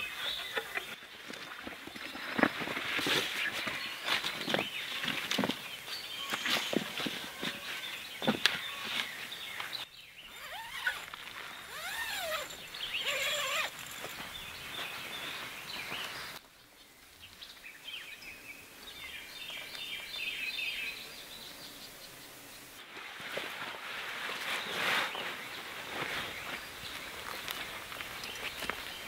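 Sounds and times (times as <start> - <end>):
woodland birds singing: 0.0 - 1.1, 1.9 - 22.8, 24.6 - 29.0.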